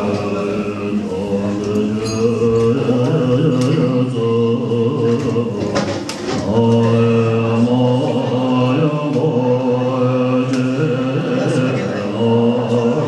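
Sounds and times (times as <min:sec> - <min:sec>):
male voices chanting in unison: 0:00.0 - 0:13.0.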